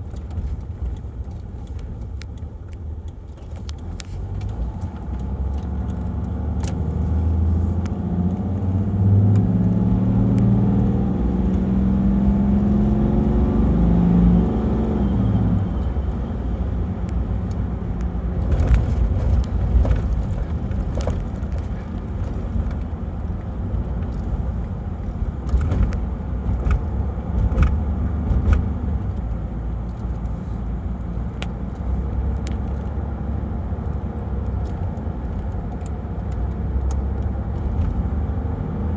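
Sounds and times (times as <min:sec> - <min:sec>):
diesel engine driving: 0:00.0 - 0:38.9
road rumble: 0:00.0 - 0:38.9.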